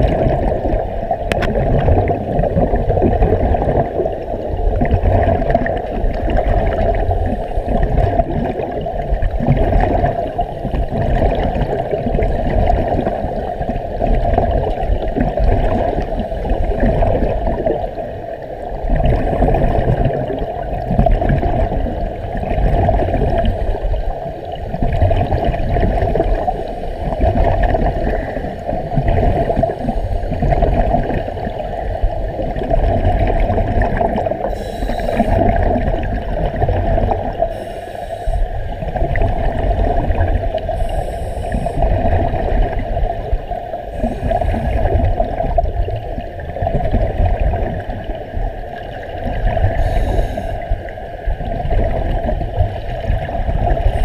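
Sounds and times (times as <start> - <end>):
muffled underwater rush: 0.0 - 54.0
scuba regulators bubbling: 0.0 - 54.0.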